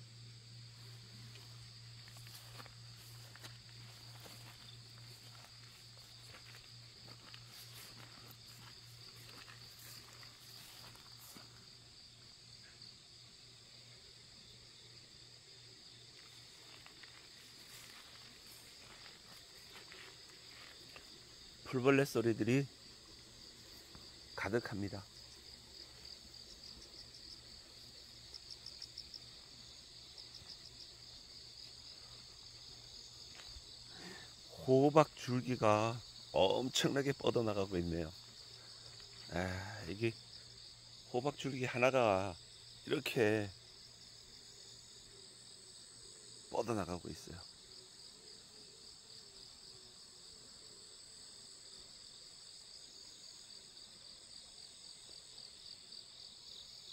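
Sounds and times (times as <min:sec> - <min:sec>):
insects chirring: 0:00.0 - 0:56.9.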